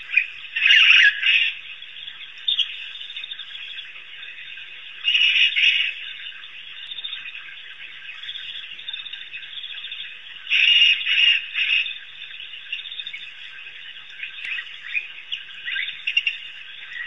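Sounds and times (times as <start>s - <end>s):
chorus of high chirping calls: 0.0s - 17.0s.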